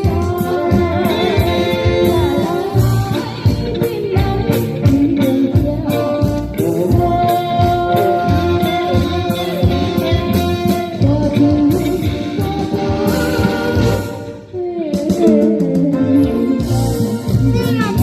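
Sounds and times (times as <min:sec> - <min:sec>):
guitar: 0:00.0 - 0:18.0
person singing: 0:00.0 - 0:18.0
steady drum beat: 0:00.0 - 0:18.0.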